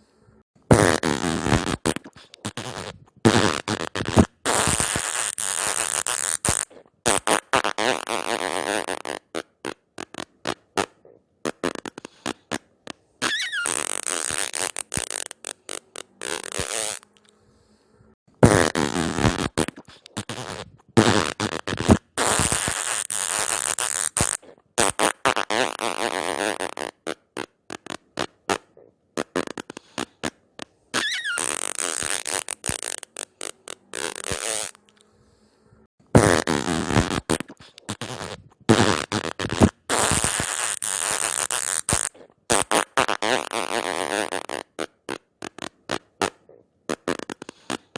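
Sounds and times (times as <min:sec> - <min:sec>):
fart sounds: 0:00.7 - 0:17.3, 0:18.4 - 0:35.0, 0:36.1 - 0:47.9.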